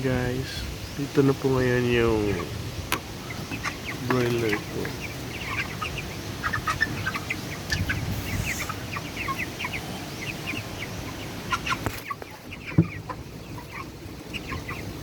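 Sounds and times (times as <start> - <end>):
chickens calling: 0.0 - 15.0.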